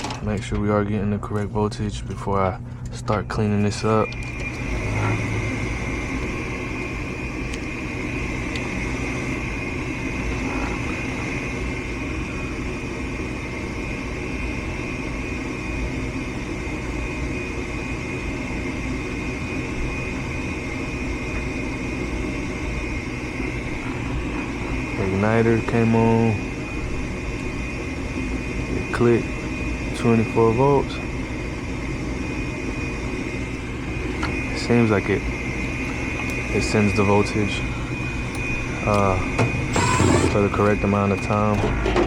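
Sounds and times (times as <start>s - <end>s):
furnace motor hum and whine: 0.0s - 42.0s.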